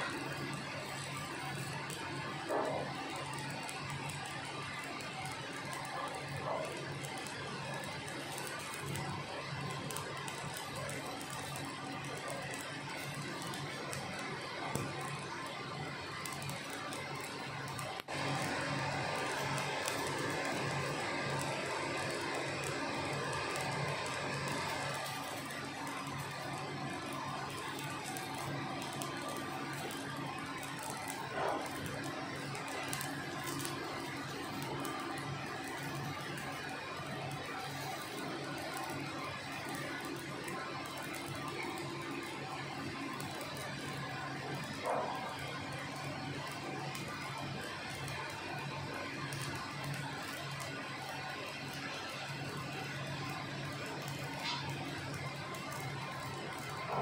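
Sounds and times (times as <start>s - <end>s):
welding arc crackling and sizzling: 0.0s - 57.0s.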